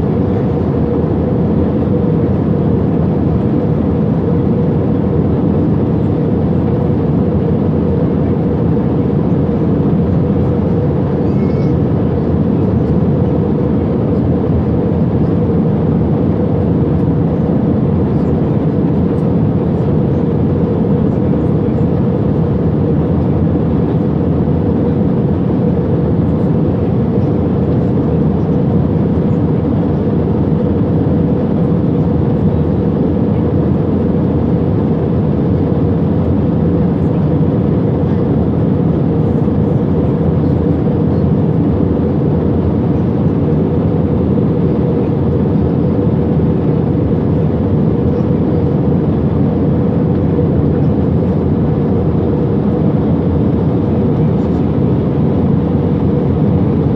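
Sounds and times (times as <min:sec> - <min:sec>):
airliner cabin engine drone: 0:00.0 - 0:56.9.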